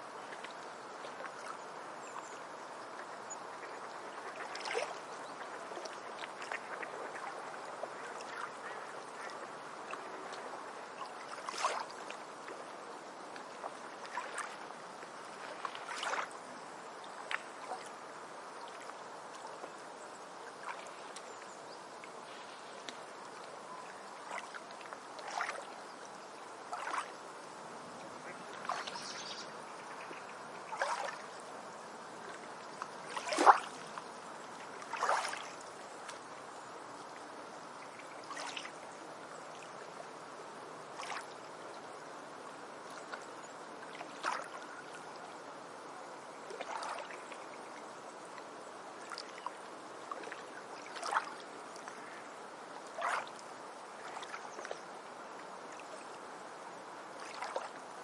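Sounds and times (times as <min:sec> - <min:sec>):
stream water trickling: 0:00.0 - 0:58.0
water splashes: 0:00.0 - 0:58.0.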